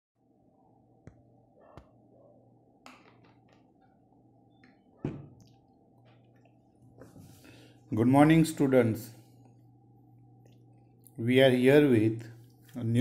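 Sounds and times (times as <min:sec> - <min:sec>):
steady low hum: 0:00.2 - 0:13.0.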